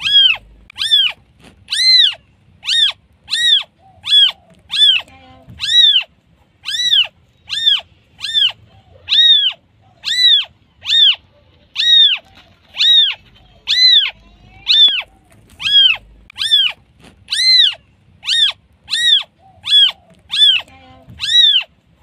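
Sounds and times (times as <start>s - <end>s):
kitten mewing: 0.0s - 22.0s.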